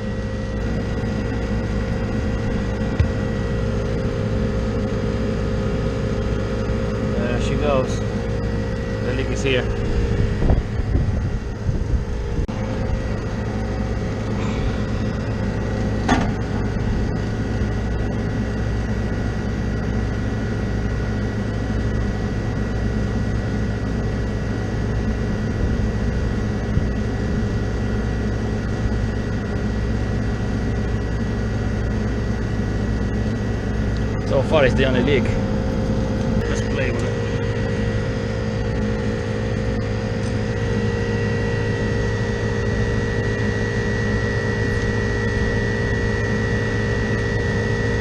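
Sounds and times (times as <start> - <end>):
compressor humming with high tone: 0.0 - 48.0.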